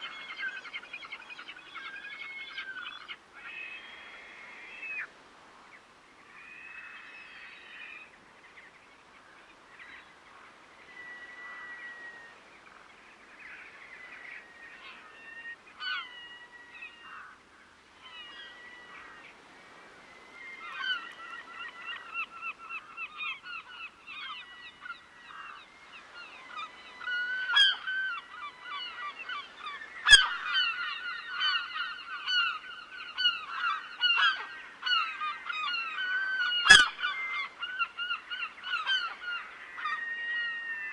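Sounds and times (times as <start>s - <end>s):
flock of birds calling: 0.0s - 5.4s, 9.2s - 40.9s.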